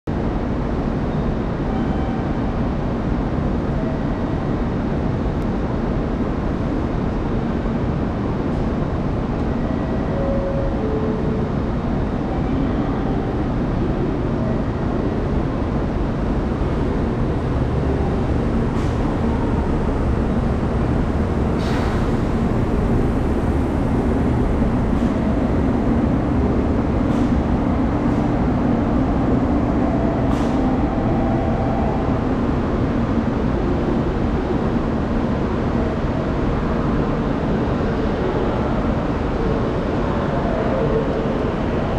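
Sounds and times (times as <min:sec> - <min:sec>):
train motors and wheels rumbling: 0:00.1 - 0:41.9.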